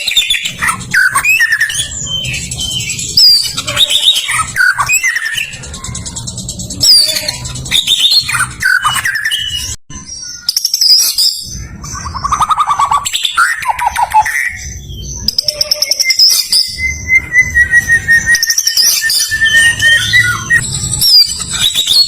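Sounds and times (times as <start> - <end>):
bird singing whistles and trills: 0.0 - 22.0.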